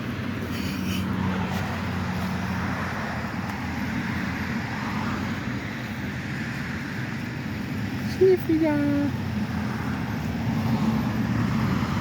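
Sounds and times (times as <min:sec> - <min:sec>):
passing cars traffic noise: 0:00.0 - 0:12.0.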